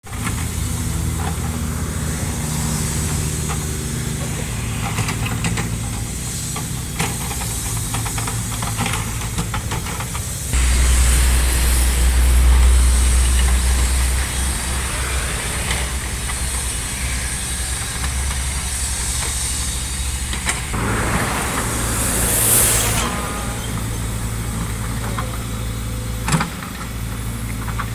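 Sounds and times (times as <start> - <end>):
excavator diesel engine: 0.1 - 27.9.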